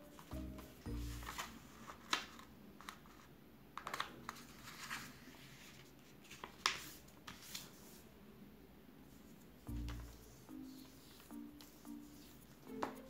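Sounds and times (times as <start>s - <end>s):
paper rustling and folding: 0.0s - 8.0s, 9.2s - 13.0s.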